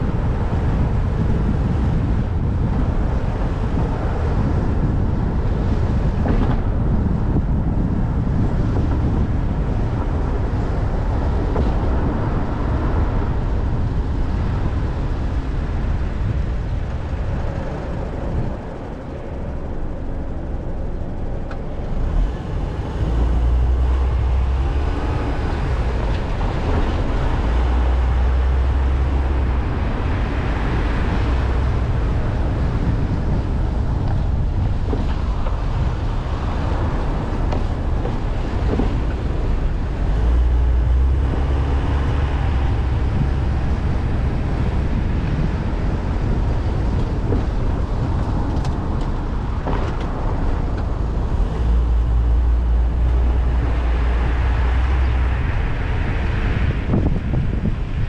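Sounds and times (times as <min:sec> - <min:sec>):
traffic drone: 0:00.0 - 0:58.0.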